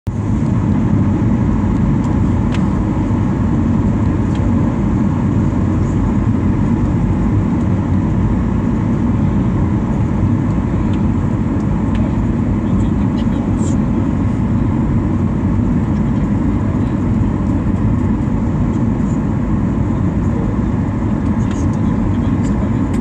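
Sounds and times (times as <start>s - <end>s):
jet engines rumbling in cabin: 0.1s - 23.0s.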